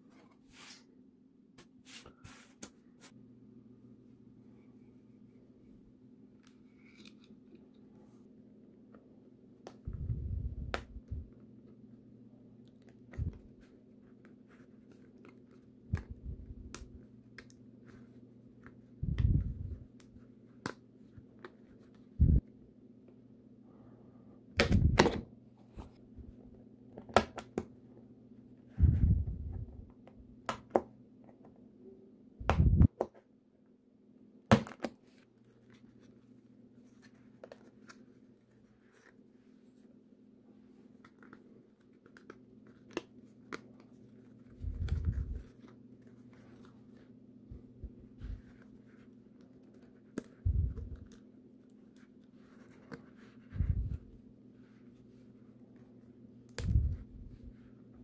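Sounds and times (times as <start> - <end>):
faint low hum: 2.2 - 34.4, 35.0 - 58.0.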